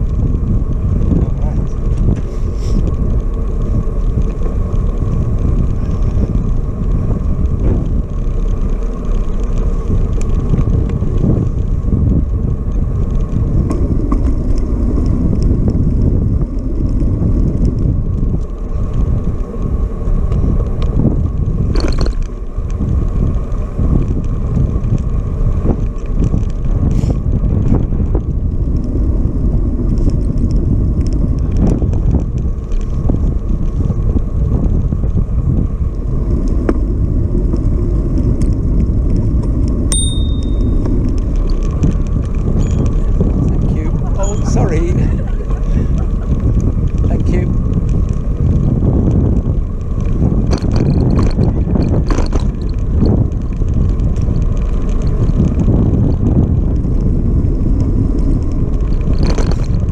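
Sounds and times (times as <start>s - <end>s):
bicycle clicks and rattles: 0.0s - 59.9s
tyres rumbling on tarmac: 0.0s - 59.9s
wind rushing over microphone: 0.0s - 59.9s.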